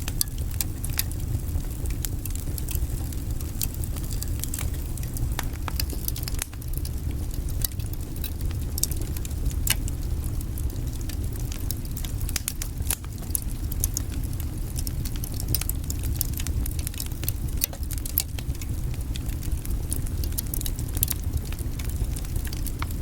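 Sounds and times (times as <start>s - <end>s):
firewood crackling and popping: 0.0s - 23.0s
low rumble of flames: 0.0s - 23.0s.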